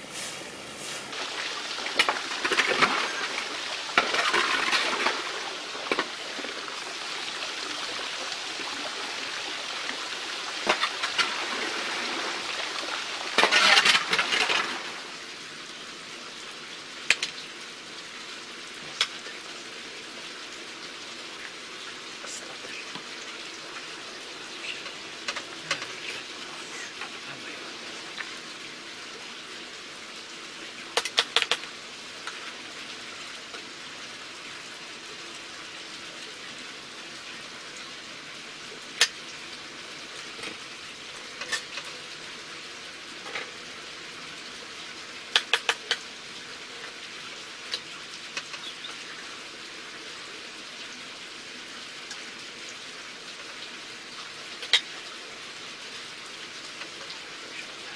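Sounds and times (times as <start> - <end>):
light rain hiss: 0.0 - 57.9.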